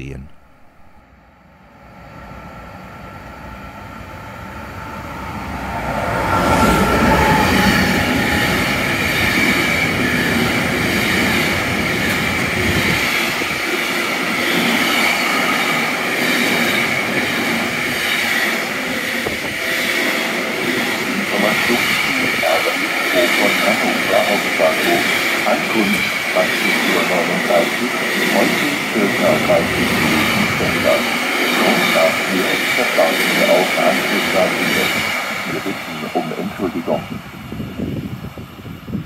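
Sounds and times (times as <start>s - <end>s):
freight train passing: 0.8s - 39.0s.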